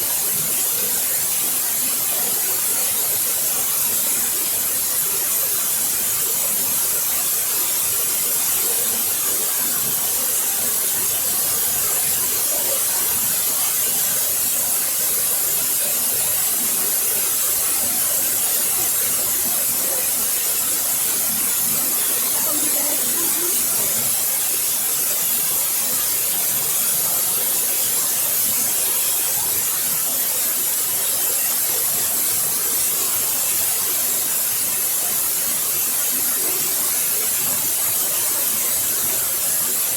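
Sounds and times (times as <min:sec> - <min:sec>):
waterfall rushing and splashing: 0:06.4 - 0:39.9.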